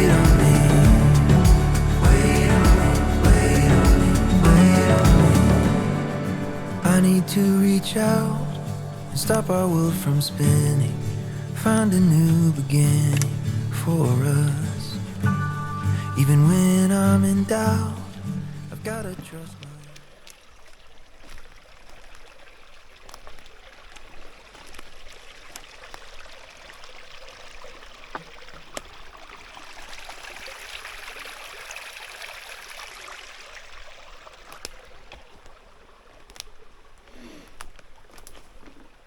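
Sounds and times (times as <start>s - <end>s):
stream water running: 0.0s - 39.0s.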